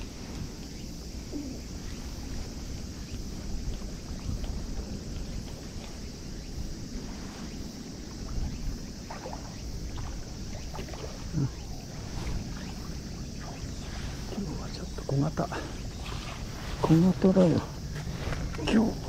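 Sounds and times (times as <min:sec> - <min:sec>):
small waves lapping: 0:00.0 - 0:19.0
wind rumbling on microphone: 0:00.0 - 0:19.0.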